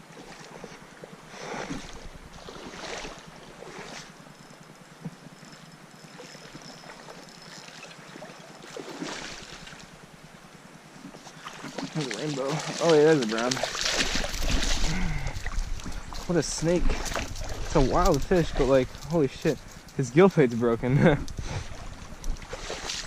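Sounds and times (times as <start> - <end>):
stream water running: 0.0 - 23.0.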